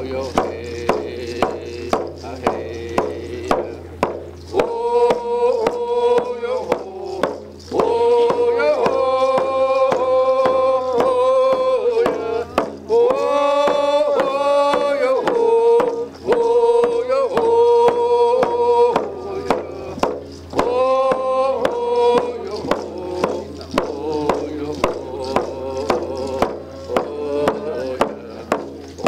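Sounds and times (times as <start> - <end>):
hand drum beating: 0.0 - 29.0
man singing: 0.0 - 29.0.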